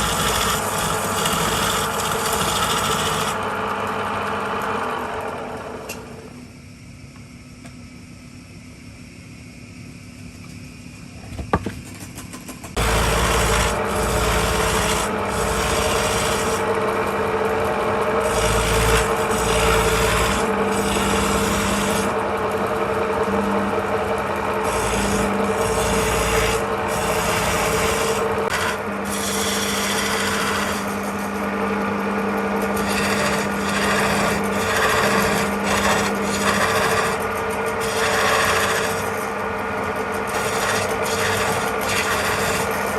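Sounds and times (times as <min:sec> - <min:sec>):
turning tool scraping wood: 0:00.0 - 0:06.4, 0:11.2 - 0:42.9
wood lathe hum: 0:00.0 - 0:06.6, 0:12.7 - 0:42.9.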